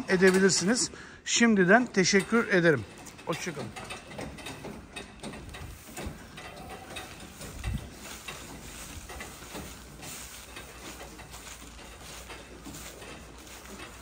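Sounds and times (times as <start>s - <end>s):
cattle moving at metal feed barriers: 0.0s - 14.0s
metallic clanks and rattles: 0.0s - 14.0s.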